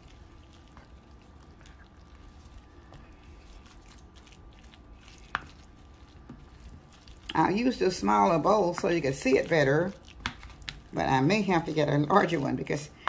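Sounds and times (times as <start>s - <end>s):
wet squishing of mixture stirred: 0.0s - 13.0s.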